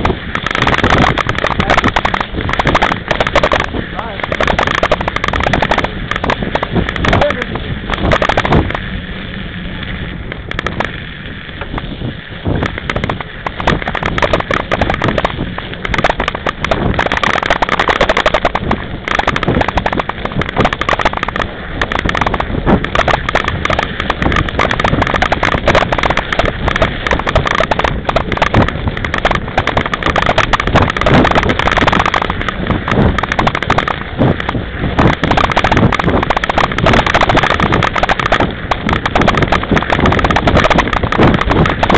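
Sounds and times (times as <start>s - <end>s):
bike rattling over bumps: 0.0s - 41.9s.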